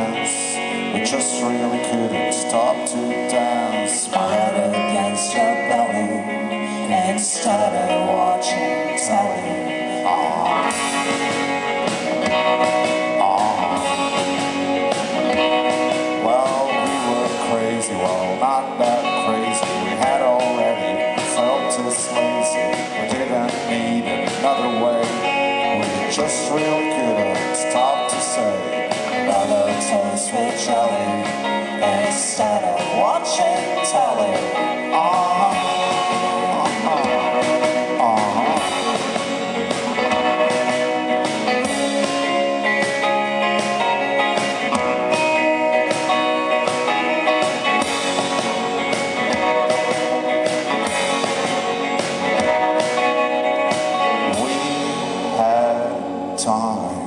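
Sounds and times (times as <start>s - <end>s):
drums: 0.0s - 57.0s
electric guitars: 0.0s - 57.0s
person singing: 0.0s - 57.0s.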